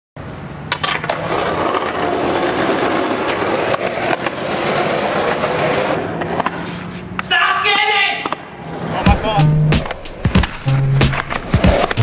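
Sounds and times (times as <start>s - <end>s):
skateboard wheels rolling on concrete: 0.2s - 12.0s
skateboard clacks: 0.7s - 7.3s, 8.2s - 12.0s.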